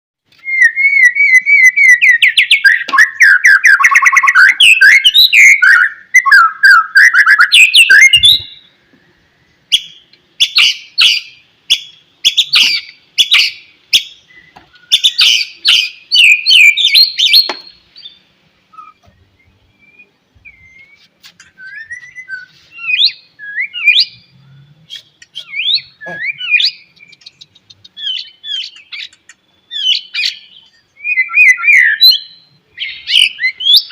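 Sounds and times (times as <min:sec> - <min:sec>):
bird whistled song: 0:00.3 - 0:33.9.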